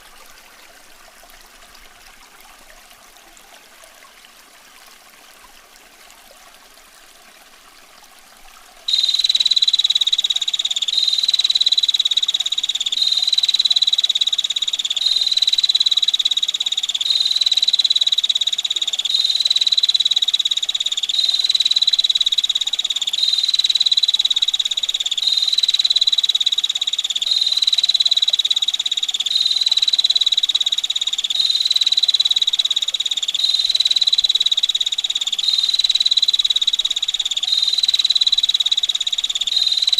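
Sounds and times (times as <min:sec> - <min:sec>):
faint running water: 0:00.0 - 0:39.9.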